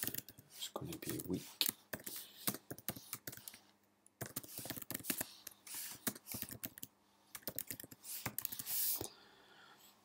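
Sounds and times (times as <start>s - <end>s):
keyboard typing: 0.0s - 8.9s.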